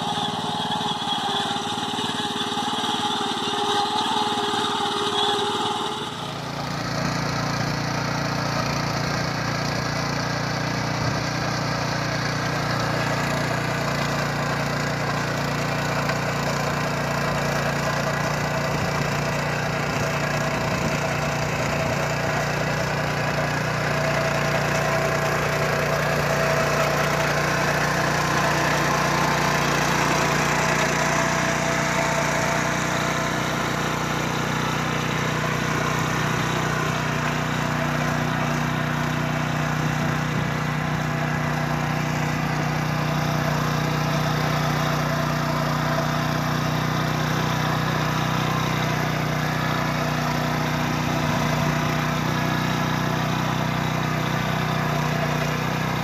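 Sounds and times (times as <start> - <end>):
petrol engine running: 0.0 - 56.0
tines tilling soil: 0.0 - 56.0.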